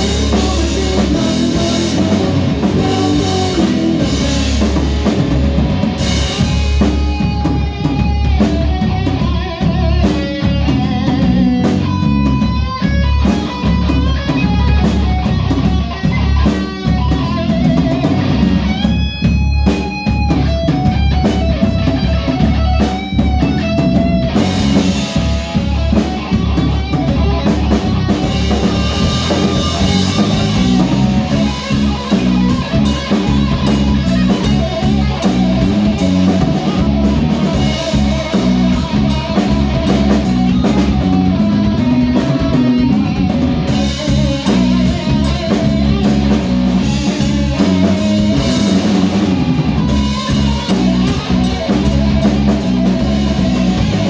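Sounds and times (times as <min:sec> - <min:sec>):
bass guitar: 0:00.0 - 0:54.0
drum kit and cymbals: 0:00.0 - 0:54.0
electric guitar: 0:00.0 - 0:54.0.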